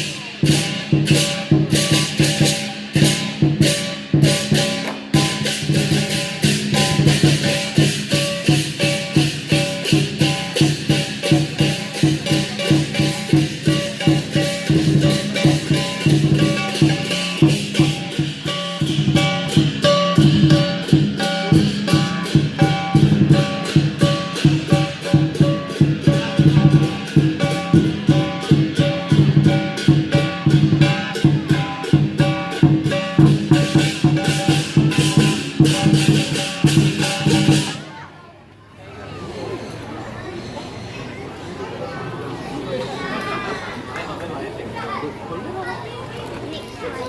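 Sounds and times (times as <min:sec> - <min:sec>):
clashing cymbals: 0:00.0 - 0:37.8
steady regular beat: 0:00.0 - 0:37.8.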